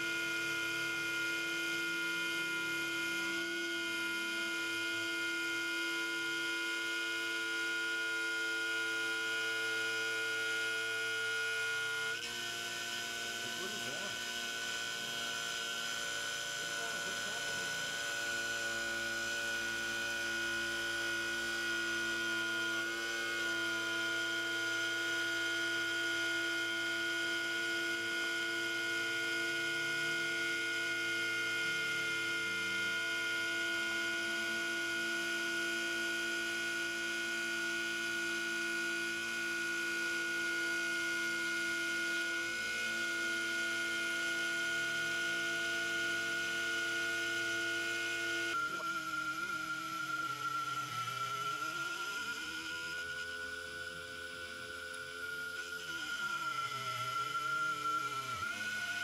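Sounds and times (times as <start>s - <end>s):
milling machine whine: 0.0s - 59.0s.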